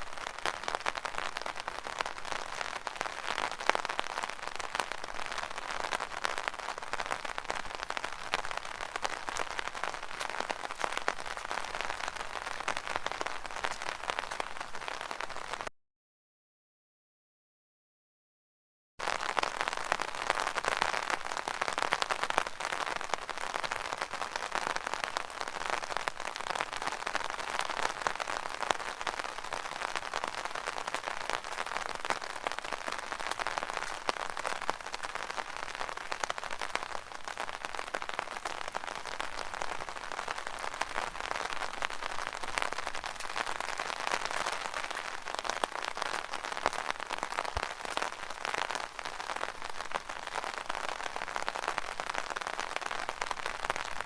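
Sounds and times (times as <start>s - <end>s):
rain on an umbrella: 0.0s - 15.7s, 19.0s - 54.0s.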